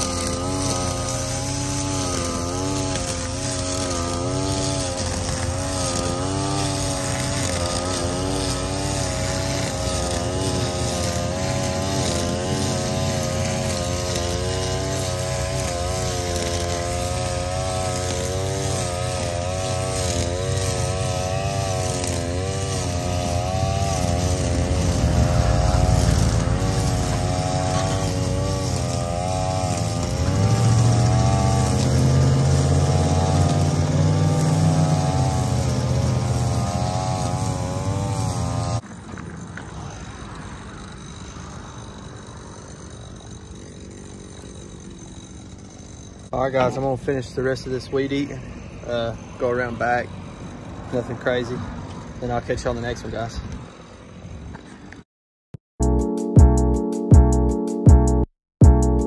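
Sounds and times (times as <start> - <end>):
string trimmer engine running: 0.0 - 55.0.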